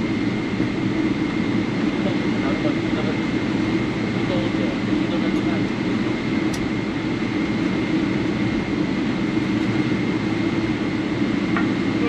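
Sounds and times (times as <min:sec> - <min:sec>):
engine and airflow rumble: 0:00.0 - 0:12.0.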